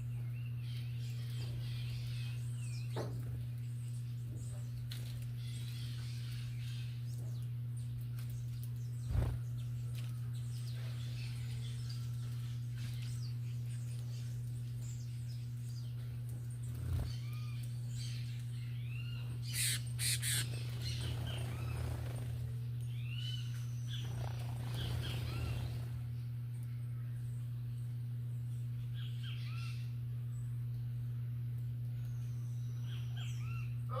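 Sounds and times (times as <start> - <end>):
wild birds chirping: 0.0 - 30.9
steady low hum: 0.0 - 34.0.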